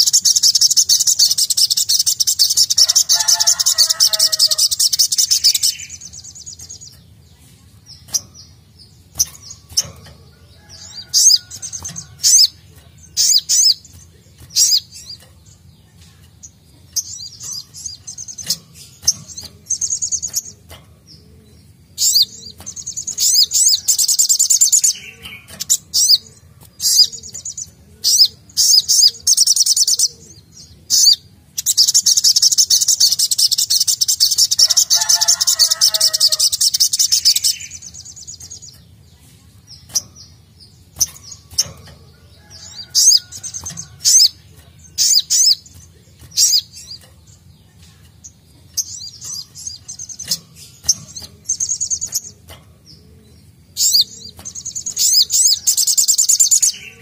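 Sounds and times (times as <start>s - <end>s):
bird chips and trills: 0.0s - 57.0s.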